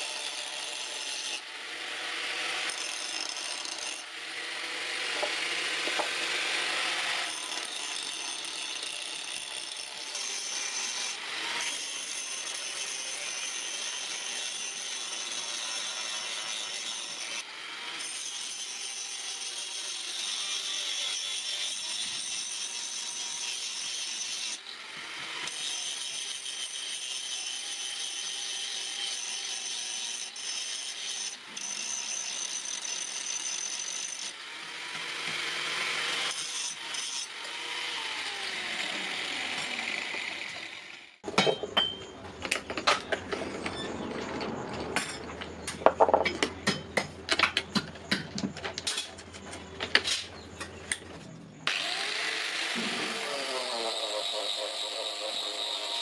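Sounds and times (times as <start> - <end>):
angle grinder grinding steel: 0.0 - 41.3, 51.7 - 56.0.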